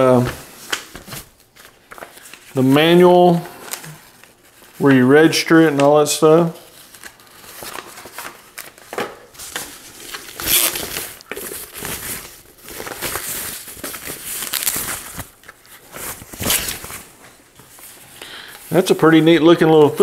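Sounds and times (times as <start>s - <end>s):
packaging crinkling and rustling: 0.0s - 20.0s.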